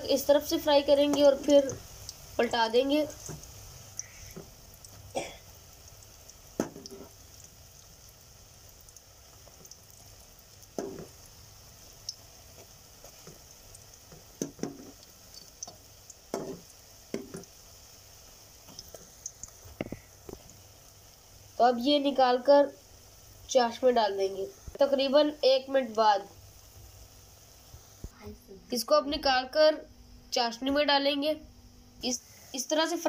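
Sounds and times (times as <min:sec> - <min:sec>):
frying in hot oil: 0:00.0 - 0:31.4, 0:32.0 - 0:33.0.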